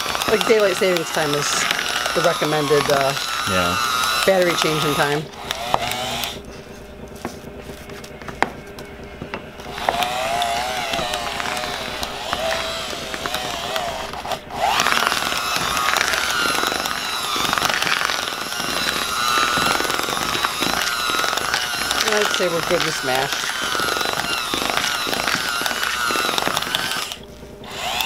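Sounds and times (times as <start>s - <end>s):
electric hand mixer whining: 0.0s - 28.0s.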